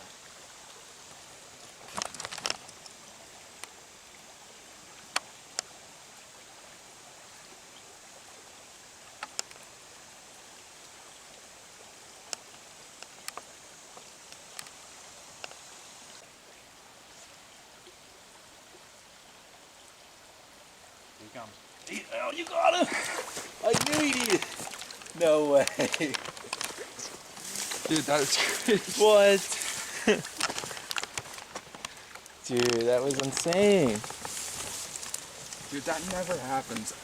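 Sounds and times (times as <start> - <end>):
small mountain stream rushing: 0.0 - 37.0.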